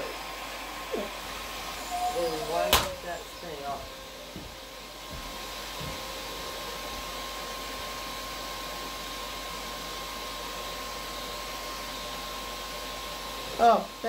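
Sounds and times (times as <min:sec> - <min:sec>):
shop vac running: 0:00.0 - 0:14.0.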